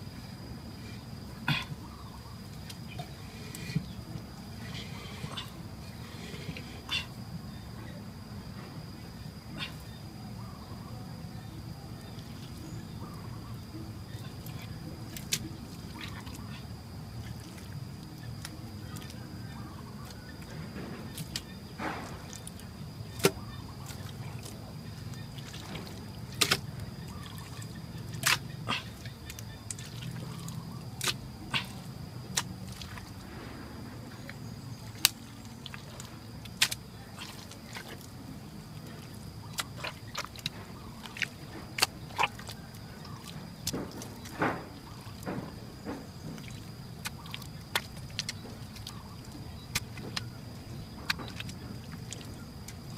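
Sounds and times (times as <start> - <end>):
wet mud squelching and slapping: 0.4 - 8.3, 12.0 - 52.9.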